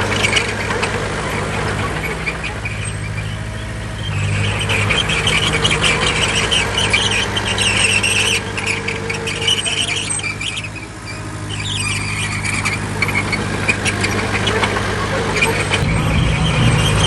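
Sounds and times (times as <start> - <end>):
bulldozer diesel engine running: 0.0 - 17.0
high metallic squeal with clicking: 0.0 - 17.0.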